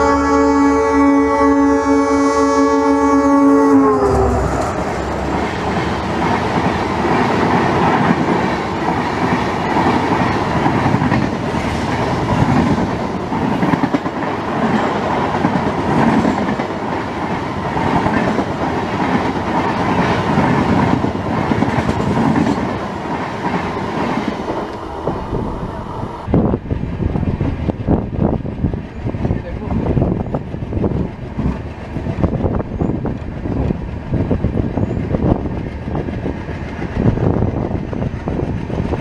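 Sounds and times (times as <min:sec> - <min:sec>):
train wheels on rail: 0:02.5 - 0:39.0.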